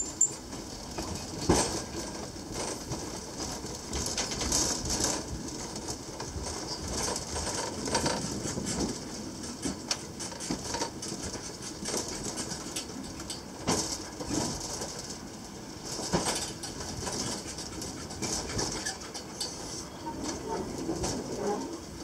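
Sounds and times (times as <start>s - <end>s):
funicular car clattering on rails: 0.0s - 22.0s.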